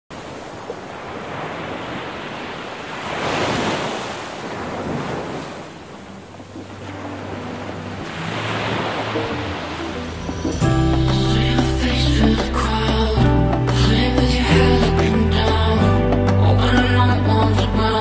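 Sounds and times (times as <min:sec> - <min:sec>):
ocean surf breaking on beach: 0:00.1 - 0:18.0.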